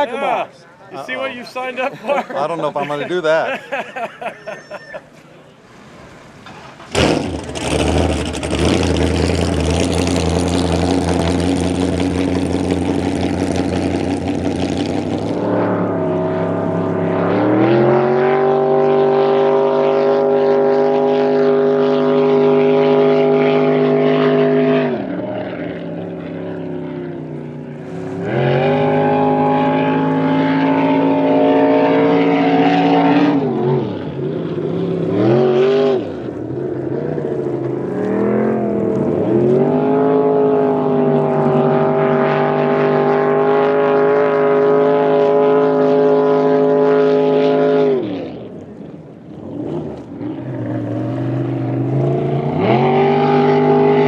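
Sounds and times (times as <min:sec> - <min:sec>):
boat engine roaring: 0:00.0 - 0:54.0.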